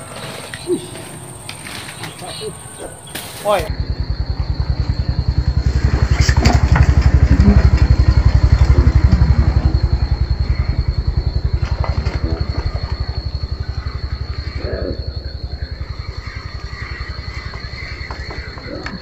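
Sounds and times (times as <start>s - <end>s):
small engine chugging: 2.0s - 19.0s.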